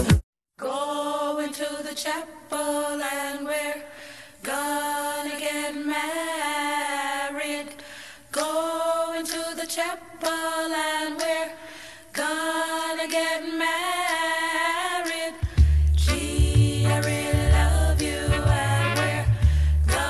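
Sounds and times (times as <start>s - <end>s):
choir singing wordless notes: 0.6s - 20.0s.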